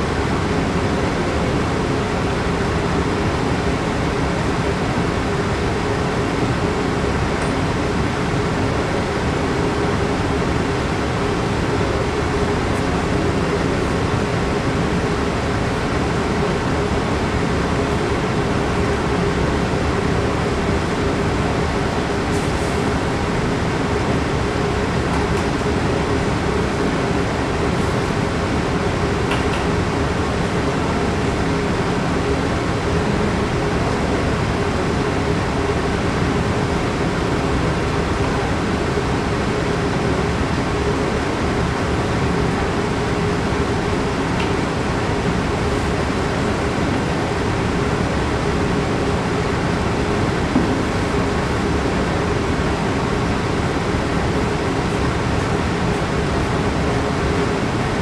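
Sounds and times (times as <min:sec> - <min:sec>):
ventilation rushing noise: 0:00.0 - 0:58.0.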